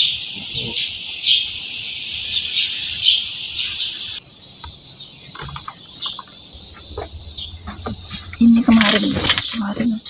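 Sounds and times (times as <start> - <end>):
bird chirps: 0.0 - 10.0
insect chorus: 0.0 - 10.0.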